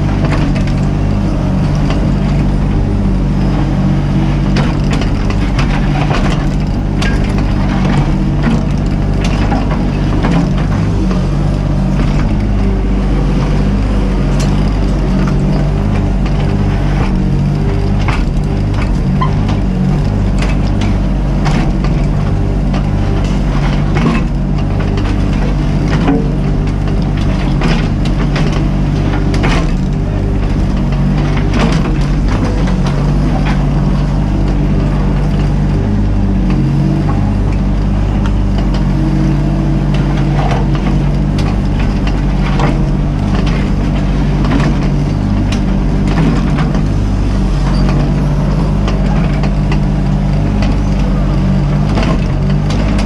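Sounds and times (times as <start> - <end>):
excavator diesel engine running: 0.0 - 53.0
machine knocks and scrapes: 0.0 - 53.0.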